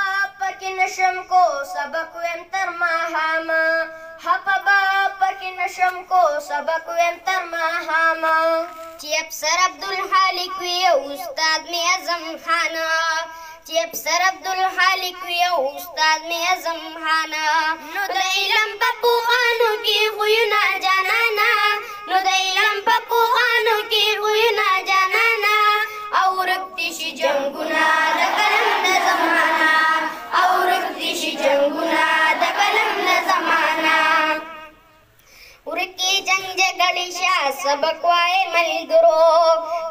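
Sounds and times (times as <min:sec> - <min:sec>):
boy singing through loudspeaker: 0:00.0 - 0:39.9.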